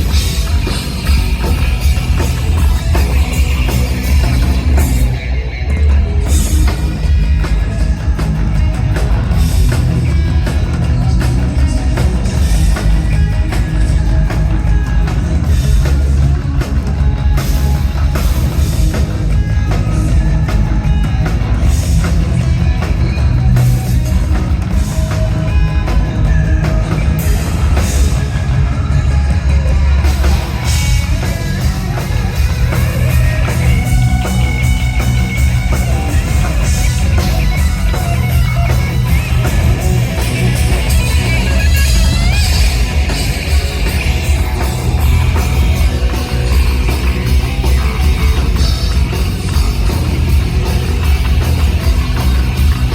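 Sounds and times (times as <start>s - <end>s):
bass guitar: 0.0s - 52.9s
distorted electric guitar: 0.0s - 52.9s
heavy drum kit: 0.0s - 52.9s.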